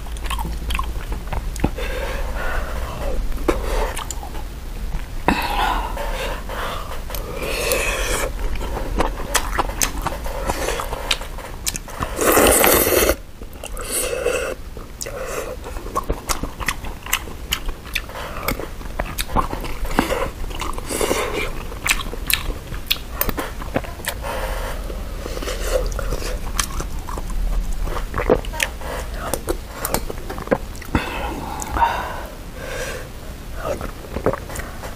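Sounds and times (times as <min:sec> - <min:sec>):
chewing and mouth noises: 0:00.0 - 0:31.8, 0:33.5 - 0:34.9.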